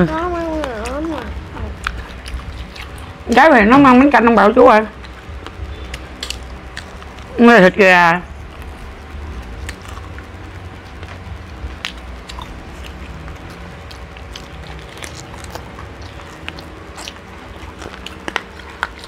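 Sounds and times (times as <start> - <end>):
low steady hum: 0.0 - 19.0
people chewing crispy chicken: 0.1 - 3.3, 4.9 - 7.3, 8.3 - 19.0.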